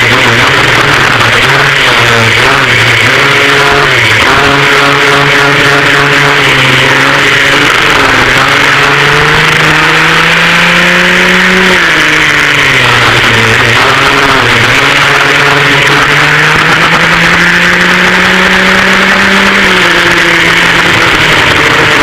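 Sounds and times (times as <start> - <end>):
racing kart engines: 0.0 - 22.0.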